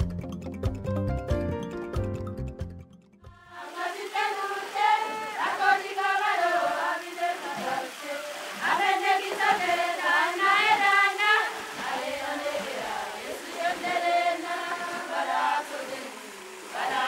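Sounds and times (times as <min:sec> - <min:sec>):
choir-like chant: 0:03.3 - 0:17.0.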